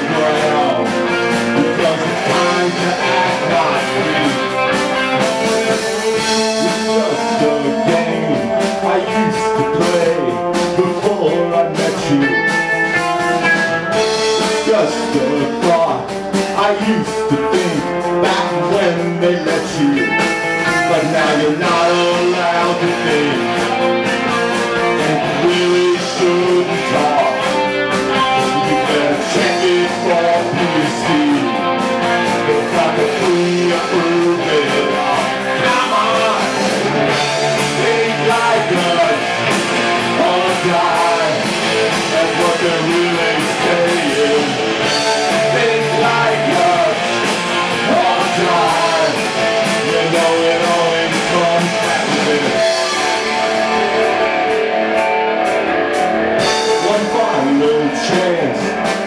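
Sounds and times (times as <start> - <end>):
electric guitars: 0.0 - 59.0
rock band playing live: 0.0 - 59.0.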